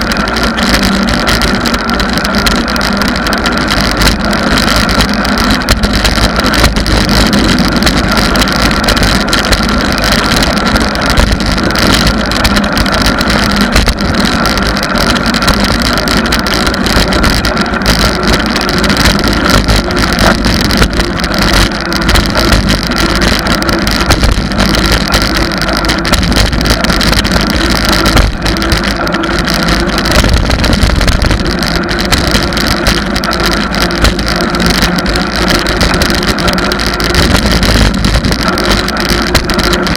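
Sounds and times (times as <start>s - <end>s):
bicycle tyre rumble on asphalt: 0.0s - 39.9s
wind rush on microphone: 0.0s - 39.9s.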